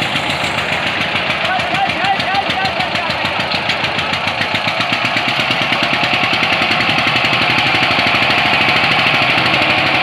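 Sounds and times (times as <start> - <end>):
tractor diesel engine chugging: 0.0 - 10.0.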